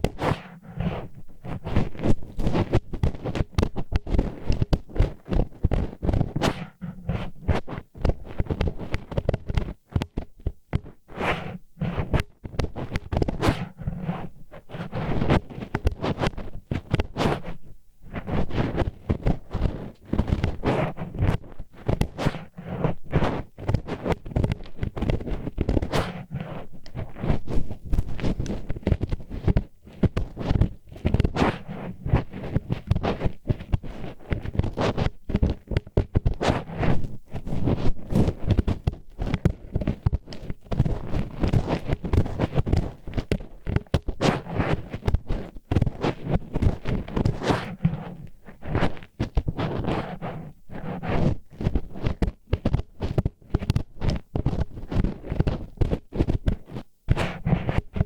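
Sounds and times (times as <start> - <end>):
wooden chopsticks scraping microphone: 0.0 - 58.0.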